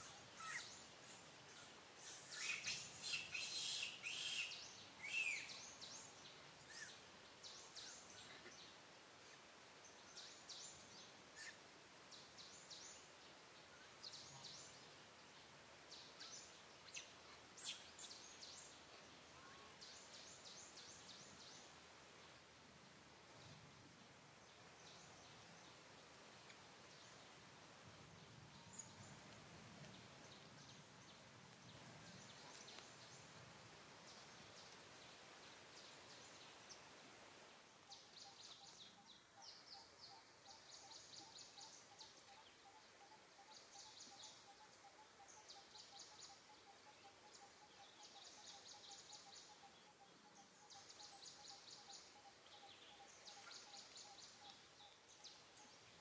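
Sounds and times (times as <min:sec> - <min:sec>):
low hiss: 0:00.0 - 0:56.0.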